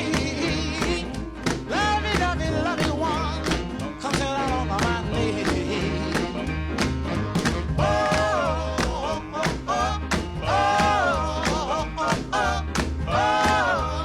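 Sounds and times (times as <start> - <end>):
song with beat and bass: 0.0 - 14.0.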